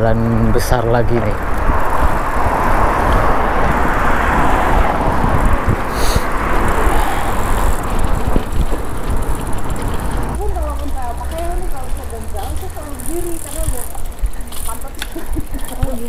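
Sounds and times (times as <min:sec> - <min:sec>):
low traffic rumble: 0:00.0 - 0:16.0
vehicles passing: 0:00.0 - 0:16.0.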